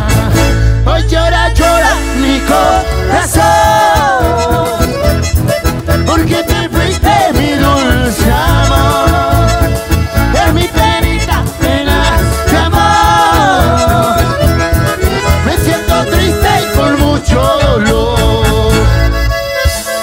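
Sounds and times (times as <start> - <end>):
accordion melody: 0.0 - 20.0
acoustic guitar: 0.0 - 20.0
bass: 0.0 - 20.0
keyboard: 0.0 - 20.0
steady low beat: 2.8 - 20.0.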